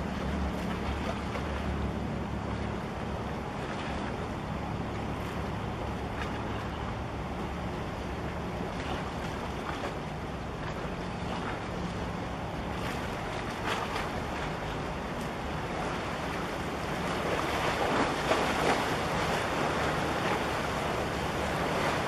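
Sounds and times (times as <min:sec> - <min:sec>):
ship engine drone: 0:00.0 - 0:22.0
small waves splashing: 0:00.0 - 0:22.0
wind and water rushing: 0:00.0 - 0:22.0.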